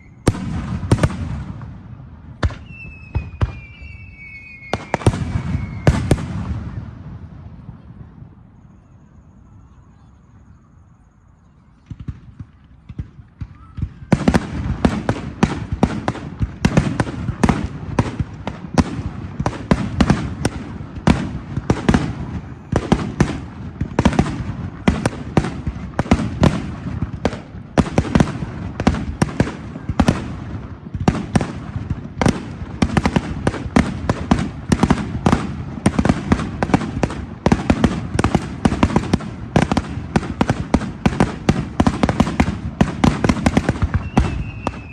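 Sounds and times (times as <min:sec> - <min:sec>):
fireworks bangs: 0:00.0 - 0:09.0, 0:11.7 - 0:44.9.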